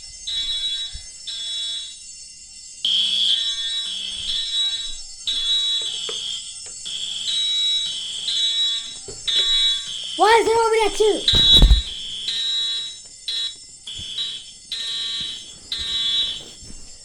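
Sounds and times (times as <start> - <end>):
electronic fire alarm beeping: 0.0 - 10.2, 11.5 - 16.8.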